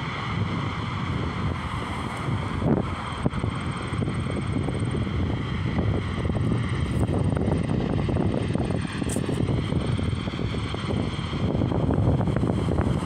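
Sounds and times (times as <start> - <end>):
faint engine whine: 0.0 - 13.0
jet engines rumbling: 0.0 - 13.0
wind crackling on microphone: 0.0 - 13.0.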